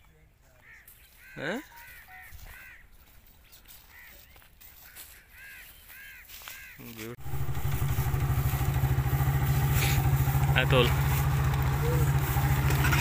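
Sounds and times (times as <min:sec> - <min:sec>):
birds calling: 0:00.4 - 0:13.0.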